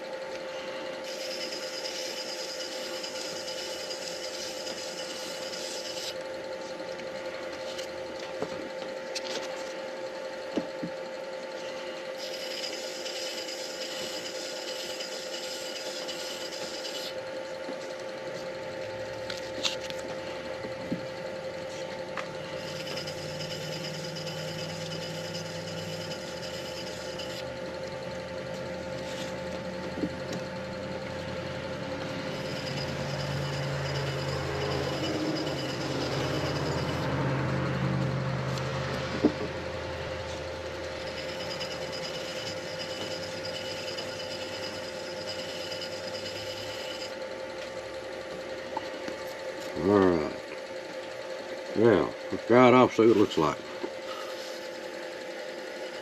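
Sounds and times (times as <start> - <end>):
lathe motor humming: 0.0 - 56.0.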